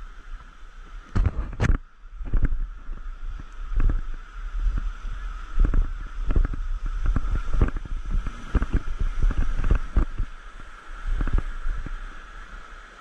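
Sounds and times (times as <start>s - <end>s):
river water rushing over rocks: 0.0s - 13.0s
wind buffeting microphone: 0.0s - 13.0s.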